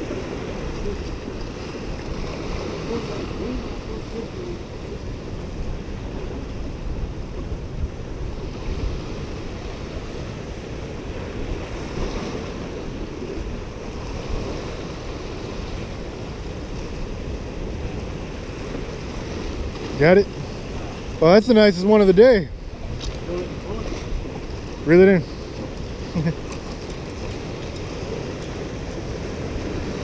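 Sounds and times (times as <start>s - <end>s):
waves breaking on rocks: 0.0s - 30.0s
wind rumbling on microphone: 0.0s - 30.0s.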